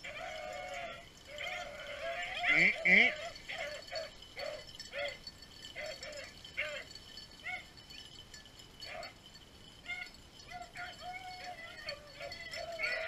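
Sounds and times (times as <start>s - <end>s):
dogs baying: 0.0s - 13.0s.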